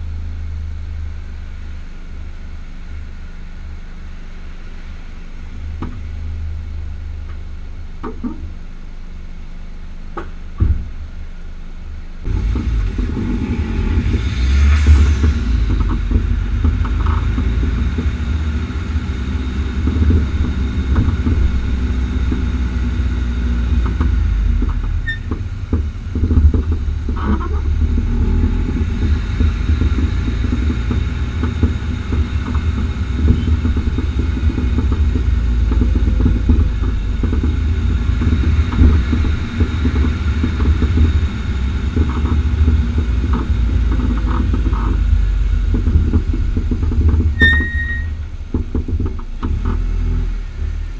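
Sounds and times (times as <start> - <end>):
low road rumble: 0.0 - 50.9
suspension popping and knocking: 7.2 - 8.7, 10.1 - 11.2, 12.2 - 50.9.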